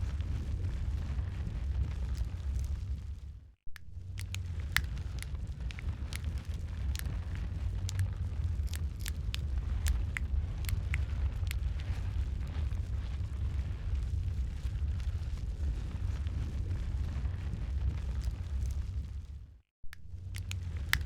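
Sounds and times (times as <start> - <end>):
logs crackling and popping: 0.0 - 19.5, 20.1 - 21.0
fire flames rumbling: 0.0 - 21.0.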